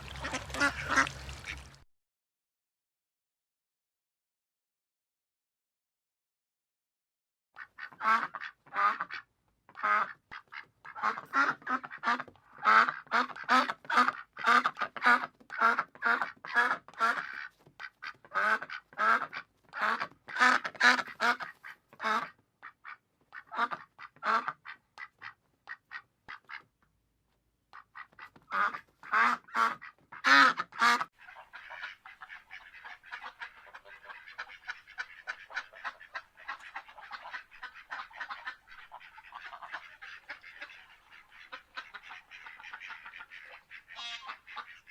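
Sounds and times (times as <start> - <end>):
ducks quacking: 0.0 - 1.8, 7.6 - 26.7, 27.8 - 44.9.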